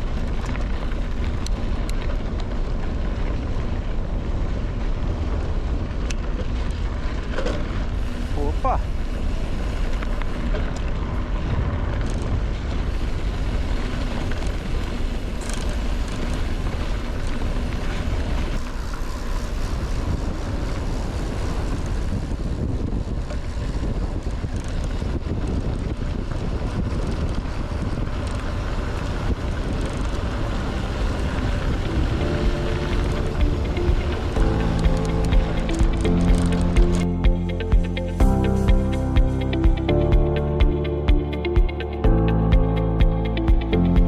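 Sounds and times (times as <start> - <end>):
wind buffeting microphone: 0.0 - 37.8.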